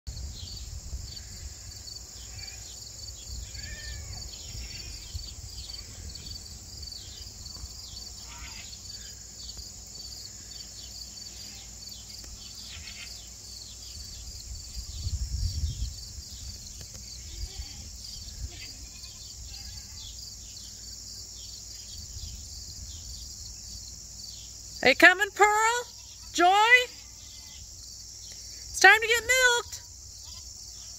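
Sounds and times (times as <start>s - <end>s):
crickets and insects chirping: 0.1s - 30.9s.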